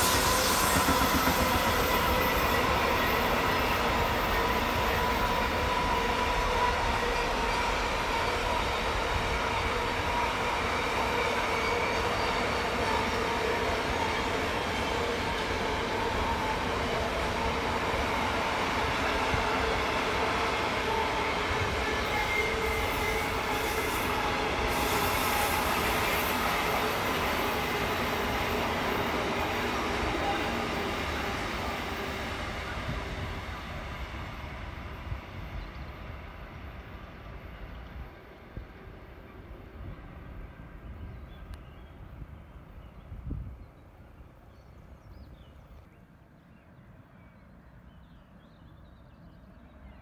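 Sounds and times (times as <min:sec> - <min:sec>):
freight train rumbling past: 0:00.0 - 0:47.8.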